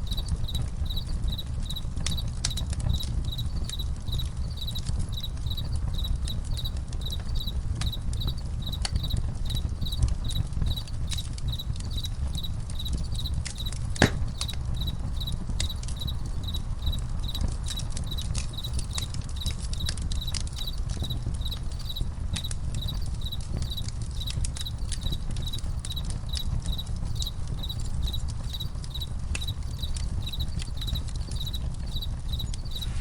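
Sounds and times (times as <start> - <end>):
campfire crackling and popping: 0.0 - 33.0
crickets chirping: 0.0 - 33.0.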